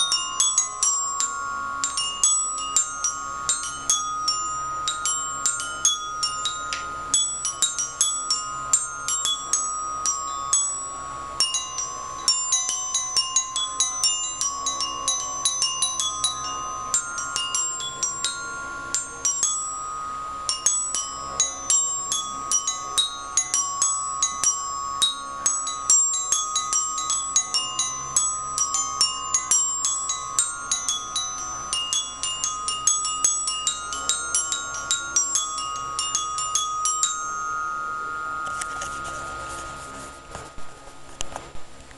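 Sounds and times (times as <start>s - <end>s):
glockenspiel notes: 0.0s - 40.5s
held tone: 0.0s - 40.8s.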